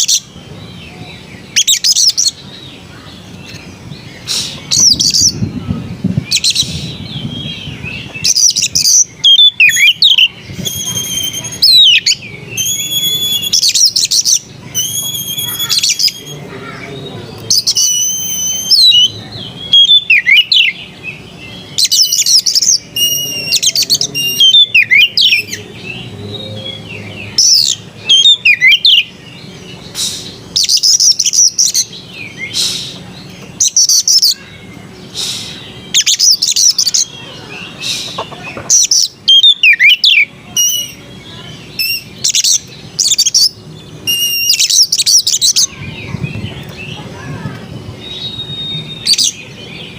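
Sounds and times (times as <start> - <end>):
songbird singing whistles and trills: 0.0 - 2.7, 3.5 - 16.4, 17.4 - 34.5, 35.1 - 47.0, 47.9 - 49.9.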